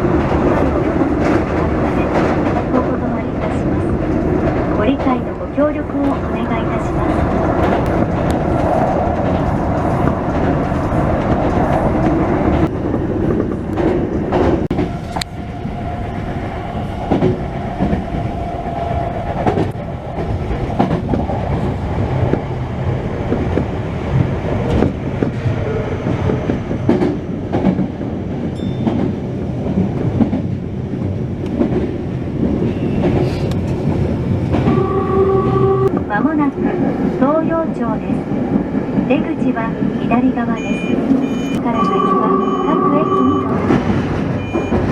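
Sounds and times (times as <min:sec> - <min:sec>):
train rumbling: 0:00.0 - 0:44.9.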